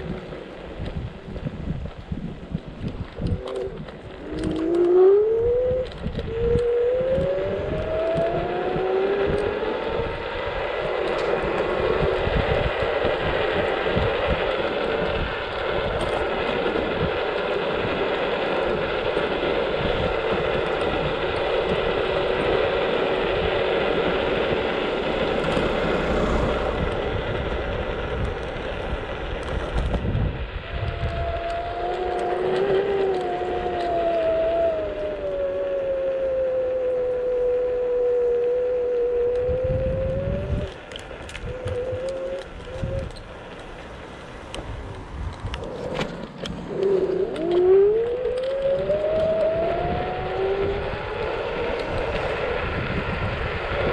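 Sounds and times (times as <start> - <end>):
irregular low rumble: 0.0 - 53.9
scooter motor: 0.0 - 53.9.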